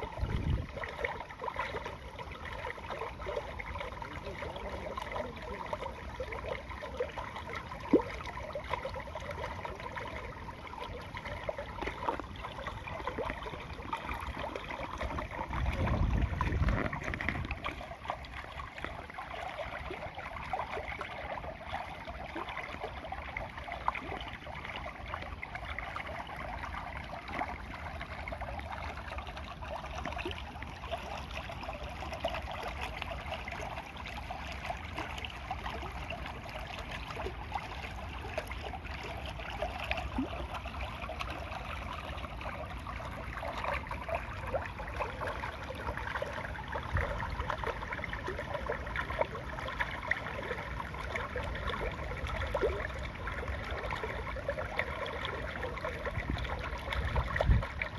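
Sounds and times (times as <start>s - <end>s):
stream flowing over rocks: 0.0s - 57.9s.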